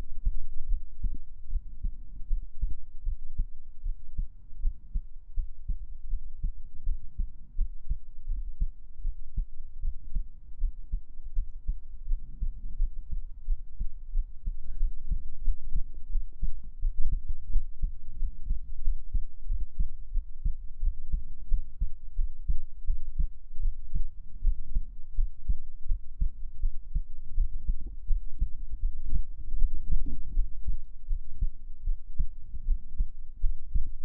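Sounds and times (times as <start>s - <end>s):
heartbeat: 0.0s - 34.0s.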